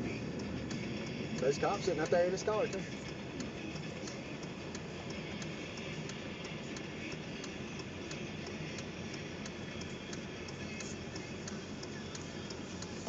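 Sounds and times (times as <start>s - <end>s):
truck road and engine noise: 0.0s - 13.0s
faint light ticking: 0.1s - 13.0s.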